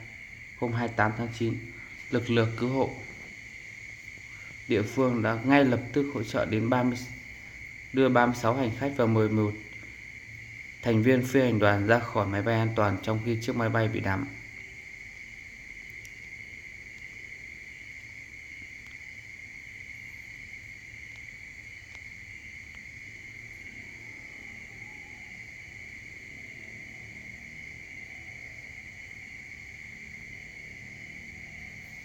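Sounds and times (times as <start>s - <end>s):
insect chorus trilling: 0.0s - 32.0s.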